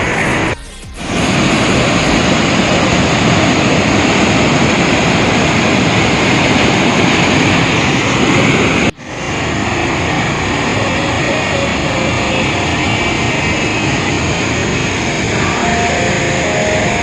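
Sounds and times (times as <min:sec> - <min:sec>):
waterfall roaring over rocks: 0:00.0 - 0:17.0.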